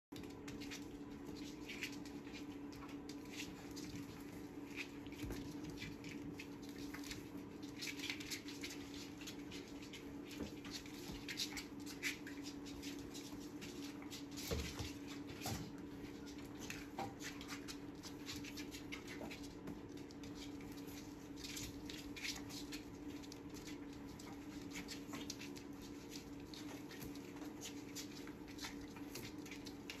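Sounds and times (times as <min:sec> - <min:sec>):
puppies scuffling: 0:00.1 - 0:30.0.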